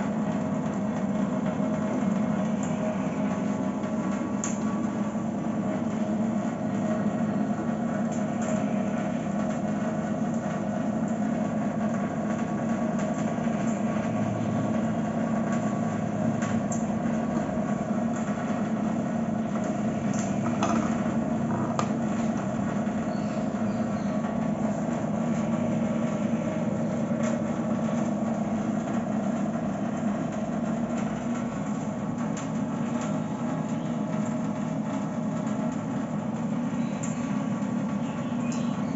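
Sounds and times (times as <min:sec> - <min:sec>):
water purifier pump humming: 0:00.0 - 0:38.9.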